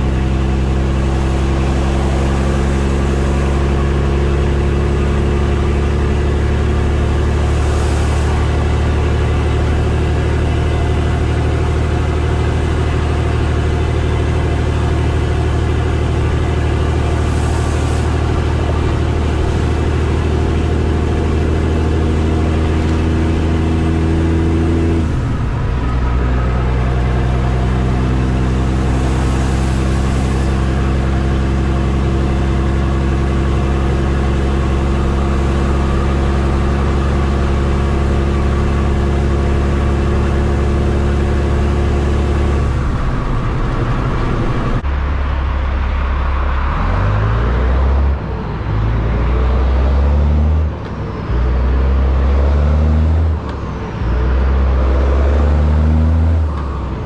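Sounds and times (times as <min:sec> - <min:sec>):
engine revving through gear shifts: 0:00.0 - 0:44.8, 0:46.4 - 0:57.0
diesel truck engine running: 0:00.0 - 0:57.0.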